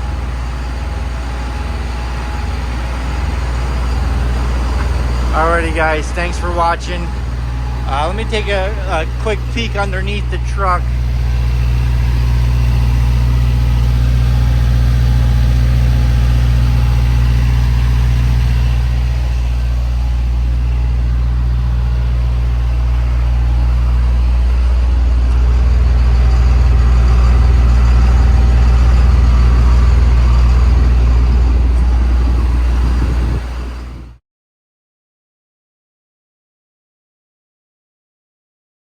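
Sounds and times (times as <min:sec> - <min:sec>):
engine idling: 0:00.0 - 0:34.2.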